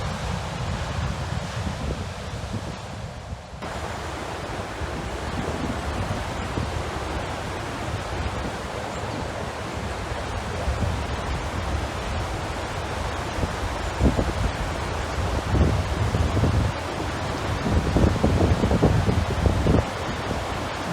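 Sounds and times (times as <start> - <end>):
rough water rushing: 0.0 - 20.9
wind buffeting microphone: 0.0 - 20.9.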